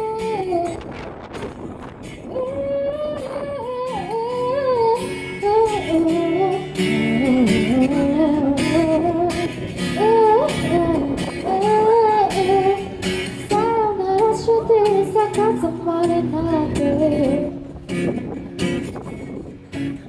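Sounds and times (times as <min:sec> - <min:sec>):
woman singing: 0:00.0 - 0:01.0, 0:02.2 - 0:17.6
wind rumble on microphone: 0:00.0 - 0:06.5, 0:07.1 - 0:20.0
guitar accompaniment: 0:00.0 - 0:20.0.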